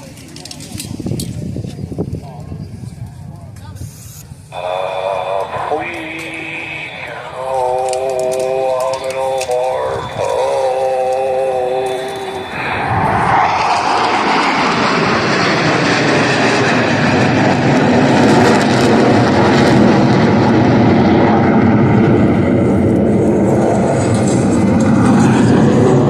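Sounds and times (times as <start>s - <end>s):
jet engines flying over: 0.0s - 26.0s.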